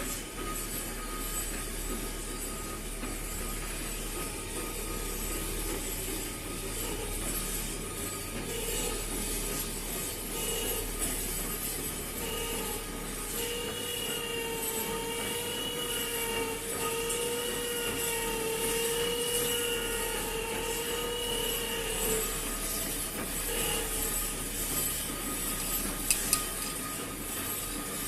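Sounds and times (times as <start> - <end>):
machine high whine: 0.0 - 28.0
mechanical noise: 0.0 - 28.0.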